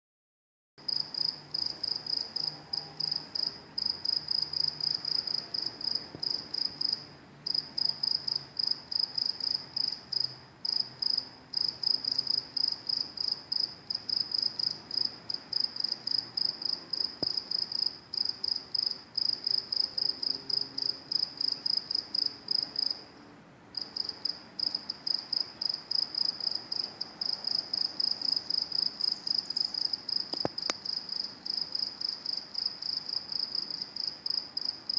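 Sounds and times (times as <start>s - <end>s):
crickets chirping: 0.8s - 23.1s, 23.8s - 34.9s.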